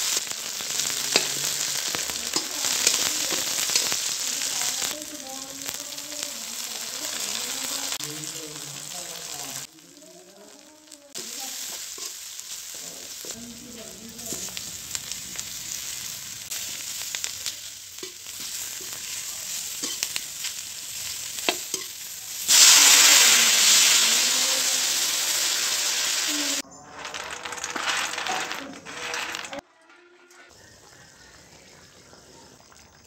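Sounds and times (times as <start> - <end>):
water hissing in hot oil: 0.0 - 26.6
food sizzling in hot oil: 0.0 - 26.7.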